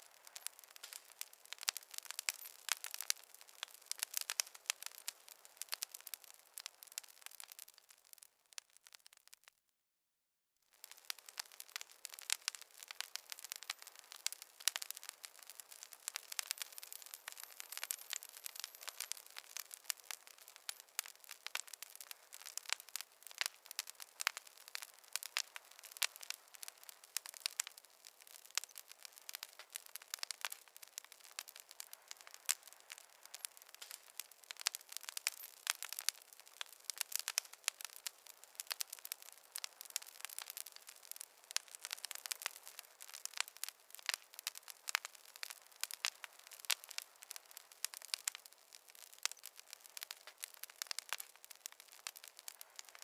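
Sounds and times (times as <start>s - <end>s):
wood fire crackling: 0.0s - 9.6s, 10.7s - 53.0s.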